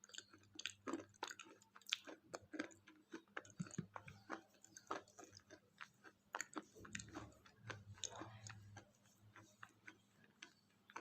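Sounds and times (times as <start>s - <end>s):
chewing crisp wafer bar: 0.0s - 11.0s.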